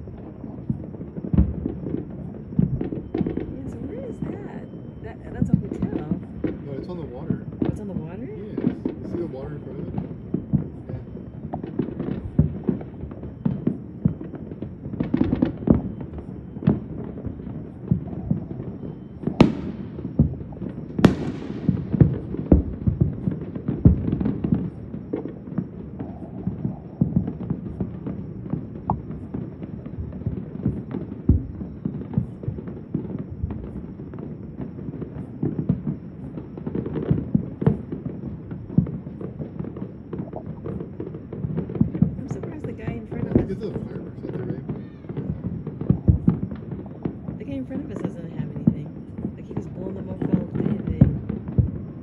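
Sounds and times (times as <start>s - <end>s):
fireworks booming and popping: 0.0s - 52.0s.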